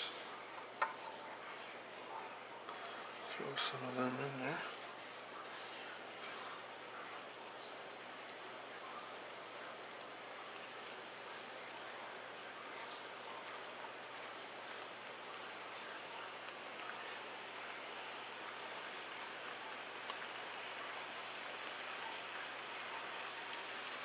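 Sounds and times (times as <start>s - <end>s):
dough sizzling in hot oil: 0.0s - 24.0s.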